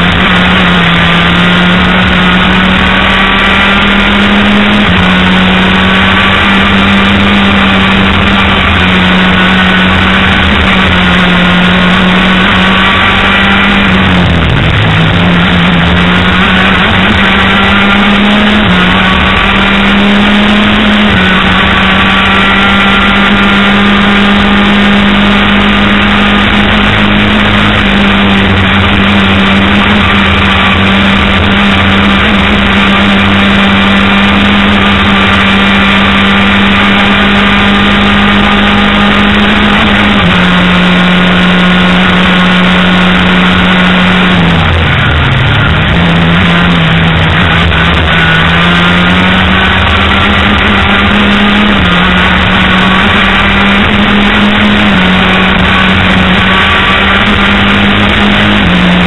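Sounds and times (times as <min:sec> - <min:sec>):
go-kart engine revving: 0:00.0 - 0:59.0
steady rush of noise: 0:00.0 - 0:59.0.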